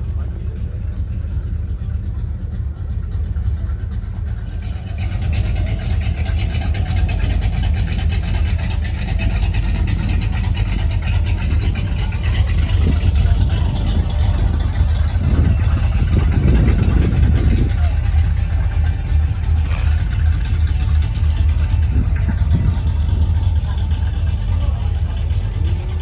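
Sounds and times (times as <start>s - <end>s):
car engine rumbling: 0.0s - 26.0s.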